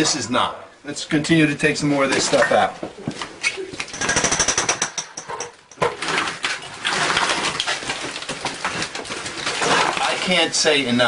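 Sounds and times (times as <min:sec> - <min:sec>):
demolition work: 0:02.0 - 0:11.0.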